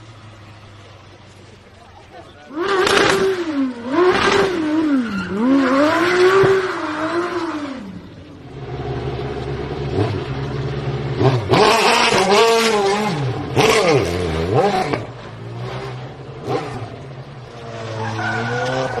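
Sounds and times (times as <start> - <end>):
race car engine at low revs: 0.0 - 19.0
racing car engine revving: 2.4 - 19.0.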